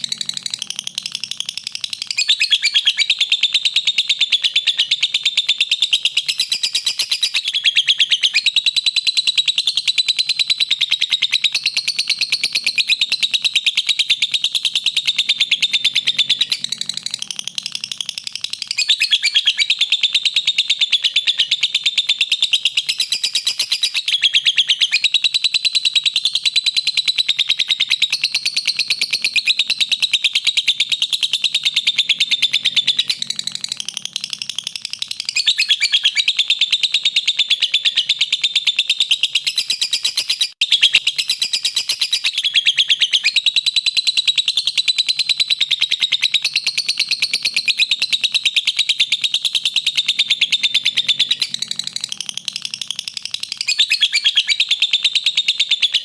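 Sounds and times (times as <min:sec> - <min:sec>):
lovebird chattering high chirps: 0:00.0 - 0:56.0.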